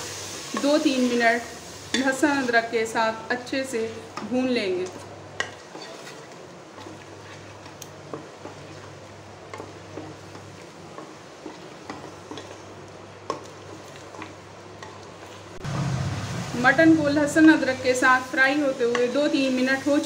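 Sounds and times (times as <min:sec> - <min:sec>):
spatula stirring and scraping: 0:00.0 - 0:02.6, 0:03.8 - 0:15.6, 0:18.0 - 0:20.0
meat sizzling in a pot: 0:00.0 - 0:04.6, 0:05.4 - 0:20.0.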